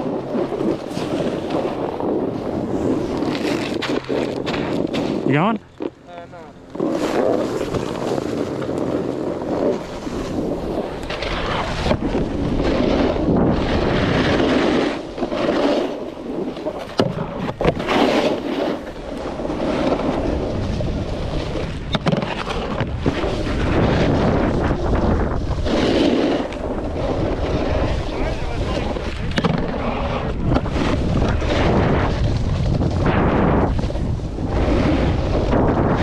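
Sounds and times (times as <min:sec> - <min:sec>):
snowboard scraping over snow: 0:00.0 - 0:36.0
wind over microphone: 0:00.0 - 0:36.0.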